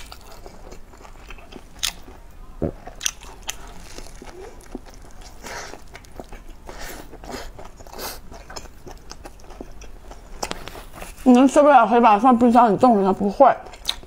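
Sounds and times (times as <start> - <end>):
crispy food crunching: 0.0 - 11.4
soft chewing: 0.0 - 11.6, 13.6 - 14.0.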